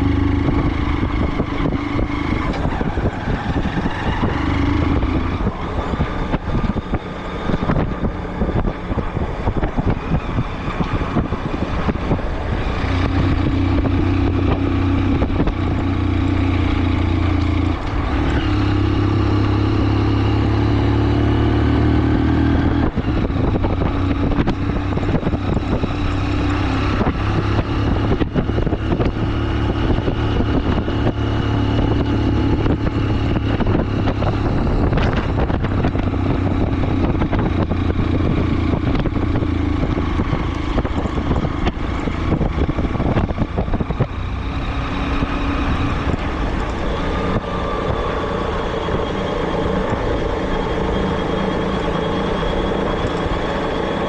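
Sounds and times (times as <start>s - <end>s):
road noise: 0.0s - 54.0s
vehicle engine running: 0.0s - 54.0s.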